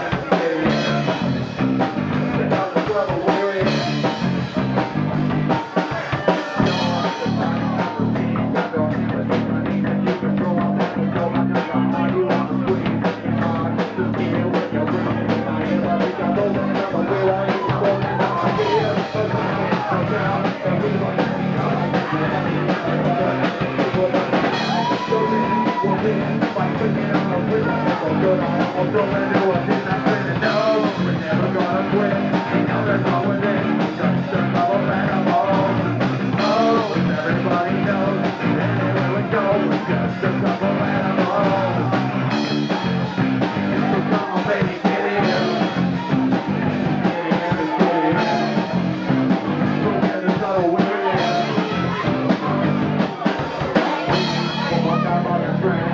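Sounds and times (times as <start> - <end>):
drum kit: 0.0 - 55.9
electric guitar: 0.0 - 55.9
man singing: 0.0 - 55.9.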